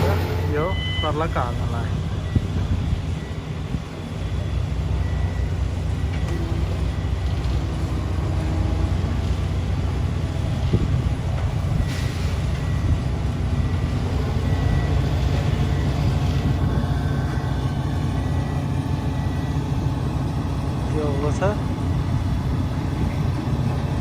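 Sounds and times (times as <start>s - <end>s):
diesel machinery rumbling: 0.0s - 24.0s.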